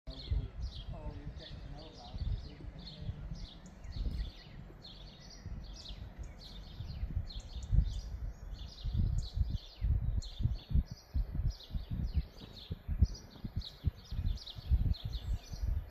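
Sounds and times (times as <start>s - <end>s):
songbirds chirping: 0.1s - 15.9s
wind buffeting the microphone: 0.1s - 15.9s.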